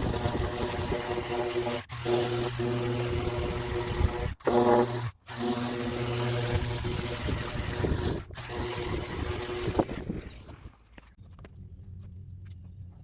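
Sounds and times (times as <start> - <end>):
small motor humming: 0.0 - 10.8.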